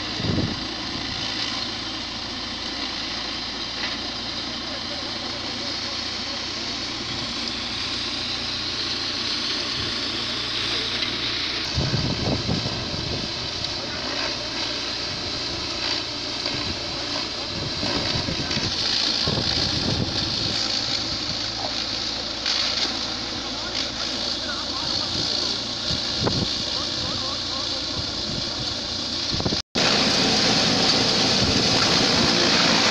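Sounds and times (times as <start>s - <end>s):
hammer mill grinding stalks: 0.0s - 32.9s
machine engine running: 0.0s - 32.9s.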